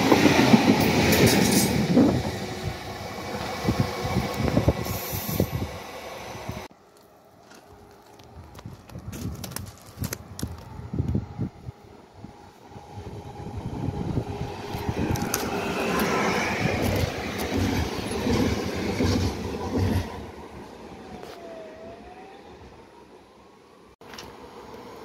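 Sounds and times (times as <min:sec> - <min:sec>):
train rumble: 0:00.0 - 0:06.7, 0:08.3 - 0:21.9.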